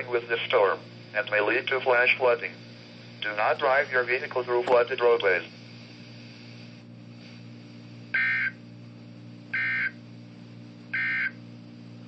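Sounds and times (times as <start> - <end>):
radio hum and hiss: 0.0 - 12.0.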